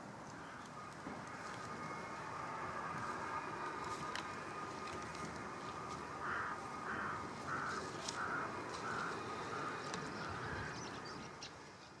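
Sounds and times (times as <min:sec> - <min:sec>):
outdoor background noise: 0:00.0 - 0:12.0
bird calling: 0:00.2 - 0:12.0.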